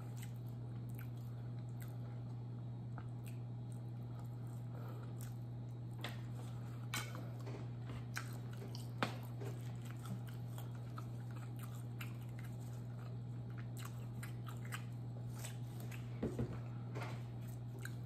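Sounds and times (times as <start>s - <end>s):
chewing food: 0.0s - 18.0s
steady low hum: 0.0s - 18.0s.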